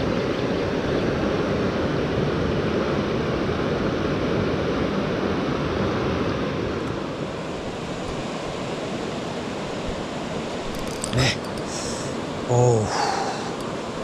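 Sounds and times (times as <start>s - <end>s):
river rushing over stones: 0.0s - 14.0s.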